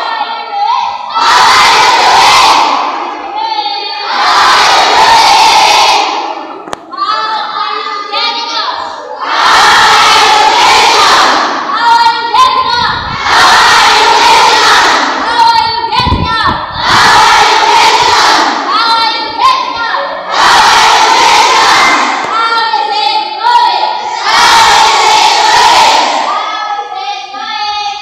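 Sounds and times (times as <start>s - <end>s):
group of students shouting: 0.0s - 3.3s, 3.9s - 15.6s, 16.8s - 19.1s, 19.9s - 26.8s.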